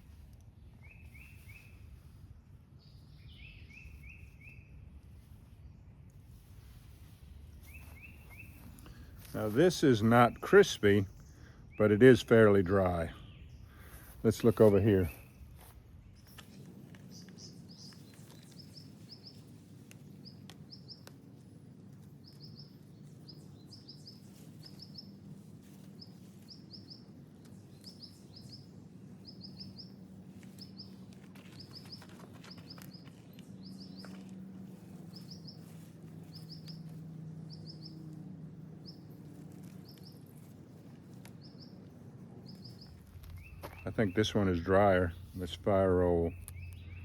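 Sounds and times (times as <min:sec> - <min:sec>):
dry leaves rustling: 0:00.0 - 0:11.0, 0:13.7 - 0:47.0
low steady hum: 0:00.0 - 0:47.0.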